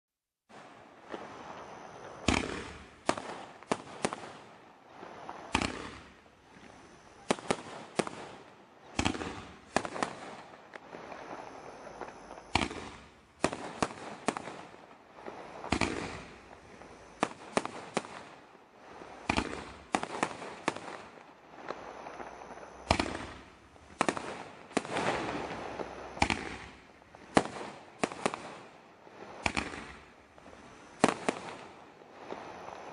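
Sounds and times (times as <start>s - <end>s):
hissing crackling star spray: 0.6s - 32.9s
firework launch bangs: 2.1s - 4.5s, 5.4s - 11.2s, 11.9s - 14.7s, 15.4s - 18.3s, 19.0s - 28.6s, 29.4s - 32.5s.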